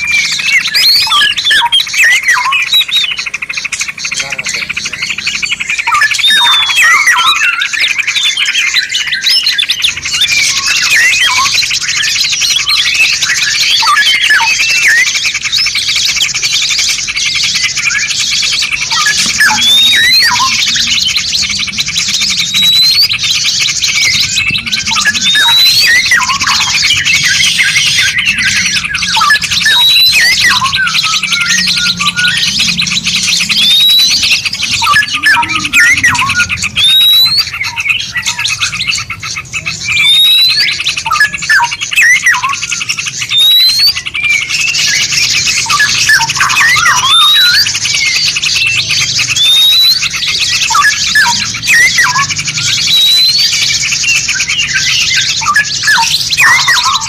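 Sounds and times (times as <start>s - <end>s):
rising bird whistles: 0.0s - 57.0s
songbirds singing: 0.0s - 57.0s.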